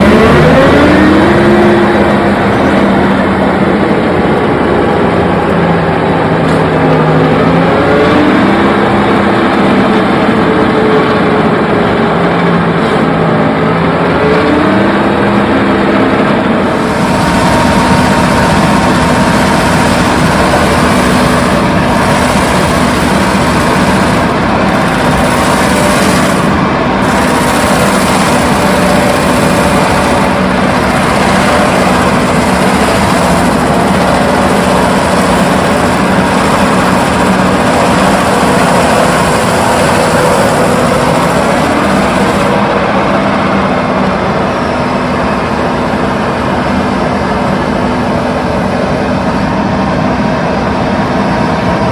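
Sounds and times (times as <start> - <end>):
excavator mulcher droning: 0.0 - 51.9.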